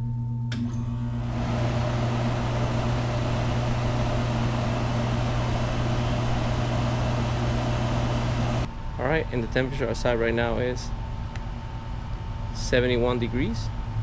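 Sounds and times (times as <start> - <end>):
constant low hum: 0.0 - 14.0
air conditioner blower rushing: 0.6 - 14.0.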